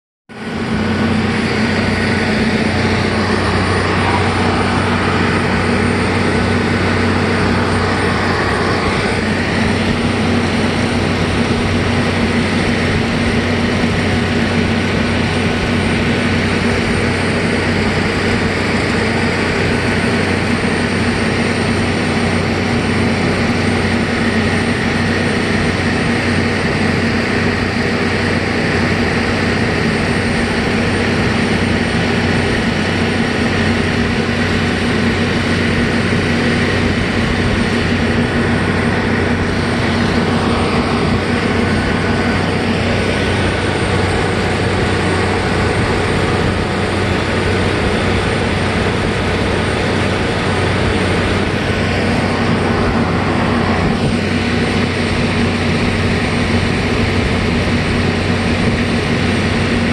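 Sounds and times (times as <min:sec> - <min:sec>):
ferry engine droning: 0:00.3 - 0:59.9.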